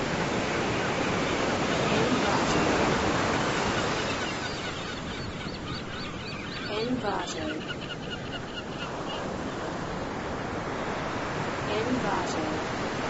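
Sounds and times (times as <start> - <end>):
ocean wave washing: 0.0 - 5.2, 6.7 - 7.8, 8.7 - 13.0.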